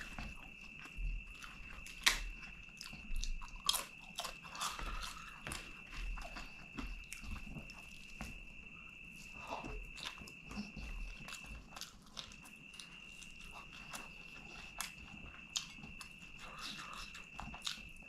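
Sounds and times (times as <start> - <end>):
chewing with wet clicks: 0.0 - 18.0.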